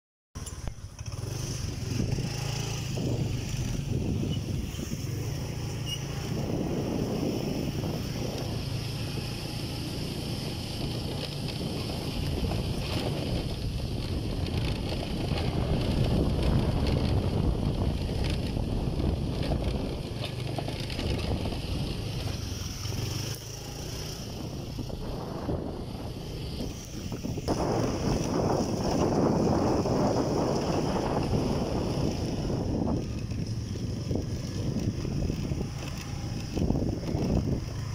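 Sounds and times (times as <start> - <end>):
vehicle engine running: 0.4 - 37.9
wind rushing over microphone: 0.6 - 37.9.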